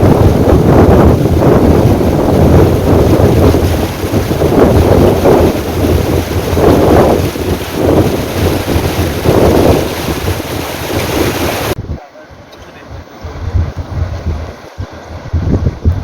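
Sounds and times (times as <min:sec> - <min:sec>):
rushing river water: 0:00.0 - 0:16.0
wind buffeting microphone: 0:00.0 - 0:16.0.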